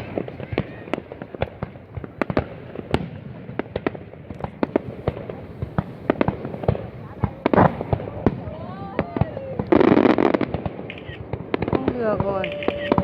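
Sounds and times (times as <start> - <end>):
crackle of distant fireworks: 0.0 - 13.0
fireworks bangs: 0.0 - 13.0.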